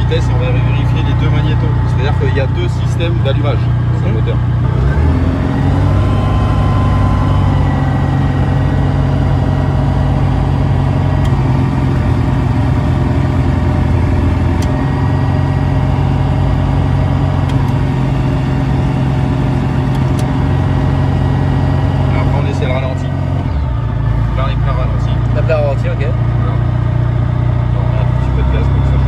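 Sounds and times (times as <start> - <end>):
aircraft piston engine running: 0.0 - 27.0.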